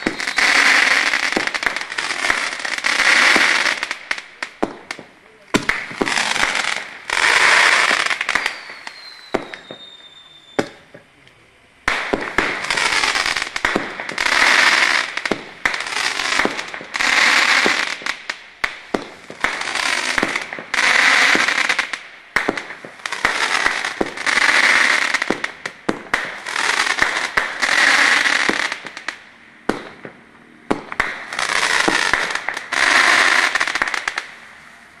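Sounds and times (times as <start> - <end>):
firework battery pops and reports: 0.0 - 32.9
dense firework crackling: 0.0 - 35.0.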